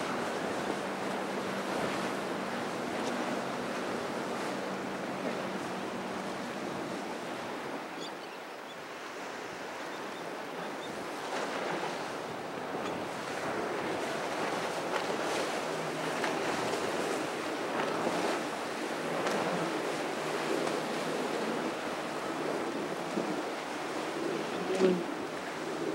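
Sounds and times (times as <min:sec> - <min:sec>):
faint outboard motors humming: 0:00.0 - 0:08.0, 0:10.5 - 0:25.9
waves washing: 0:00.0 - 0:08.0, 0:08.8 - 0:25.9.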